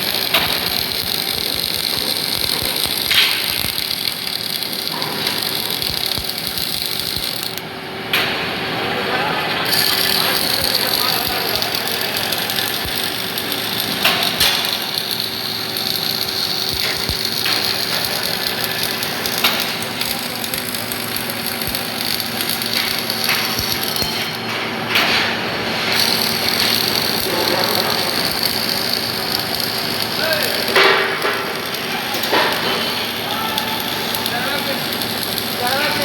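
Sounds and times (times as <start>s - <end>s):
welder arc crackling and hissing: 0.0s - 8.4s, 9.6s - 36.0s.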